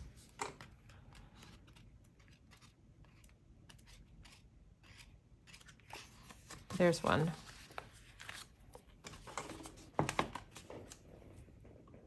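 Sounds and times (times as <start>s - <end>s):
paper pages rustling: 0.1s - 11.1s.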